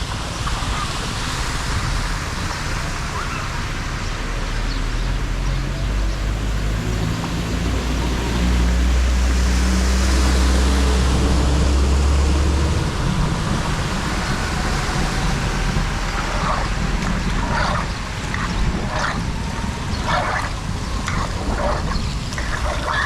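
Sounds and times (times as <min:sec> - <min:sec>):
rushing water hiss: 0:00.0 - 0:23.0
vehicle engine humming: 0:00.0 - 0:23.0.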